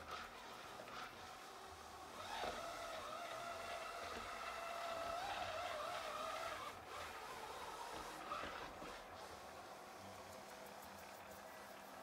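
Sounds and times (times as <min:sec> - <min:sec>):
robot vacuum whining: 0:00.0 - 0:10.2.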